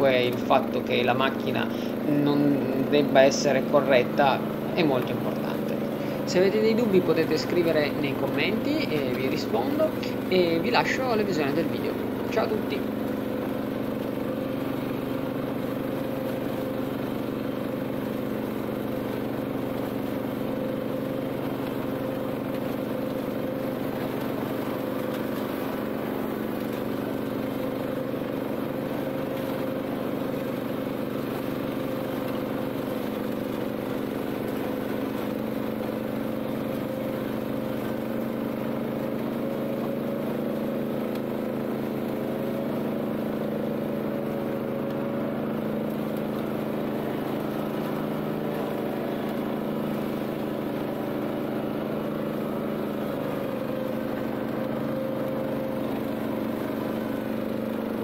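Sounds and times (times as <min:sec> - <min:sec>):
tractor engine running steadily: 0:00.0 - 0:58.0.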